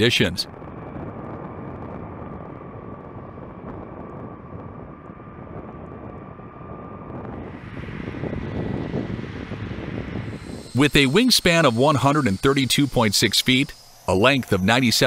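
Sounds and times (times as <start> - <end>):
turboprop aircraft engines running: 0.0 - 15.0.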